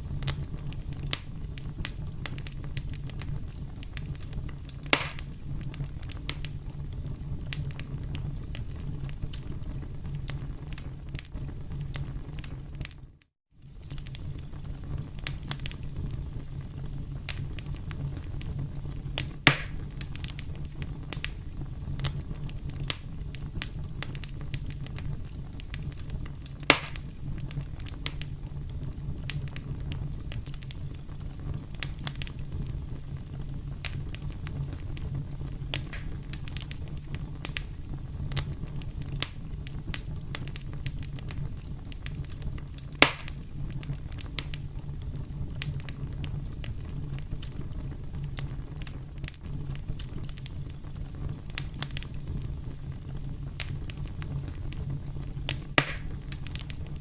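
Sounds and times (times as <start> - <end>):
campfire crackling: 0.0 - 57.0
loud fire pops: 0.0 - 57.0
low rumble of burning: 0.0 - 57.0.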